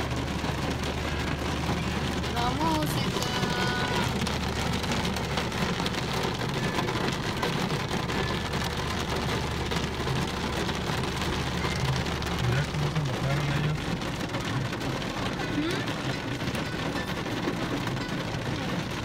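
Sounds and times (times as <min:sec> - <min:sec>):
low car hum: 0:00.0 - 0:19.0
rain on car roof: 0:00.0 - 0:19.0.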